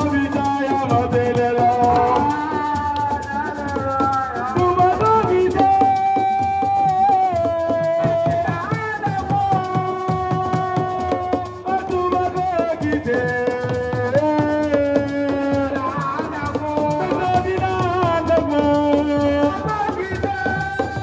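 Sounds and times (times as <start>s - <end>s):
shakers: 0.0s - 21.0s
steady drum beat: 0.0s - 21.0s.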